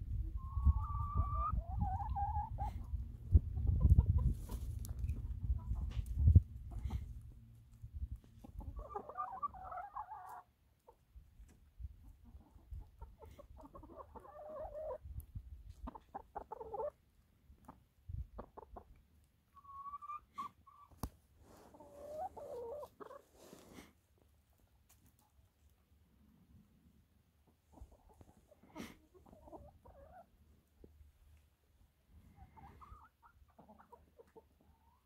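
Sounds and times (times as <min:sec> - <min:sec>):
hens clucking: 0:00.1 - 0:23.7, 0:27.2 - 0:31.5, 0:32.3 - 0:35.0.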